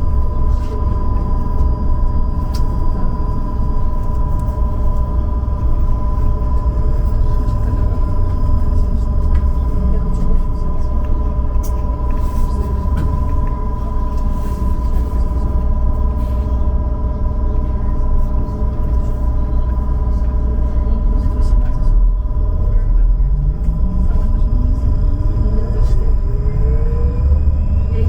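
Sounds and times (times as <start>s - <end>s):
low rumble of ride: 0.0s - 28.0s.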